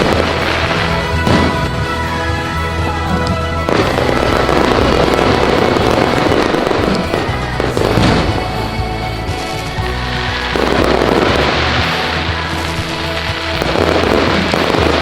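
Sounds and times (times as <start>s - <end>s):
fireworks crackling and popping: 0.0s - 15.0s
loud music with bass line: 0.0s - 15.0s.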